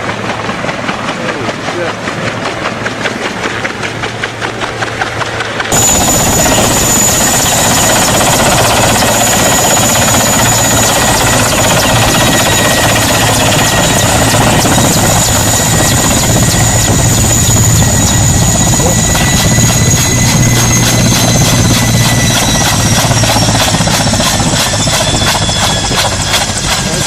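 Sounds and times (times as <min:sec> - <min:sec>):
helicopter rotor chop: 0:00.0 - 0:27.0
high turbine whine: 0:02.3 - 0:27.0.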